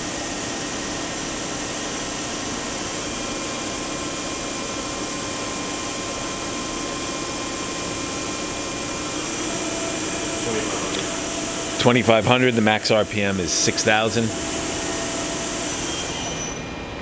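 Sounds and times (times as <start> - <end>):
machine spindle whine: 0.0 - 17.0.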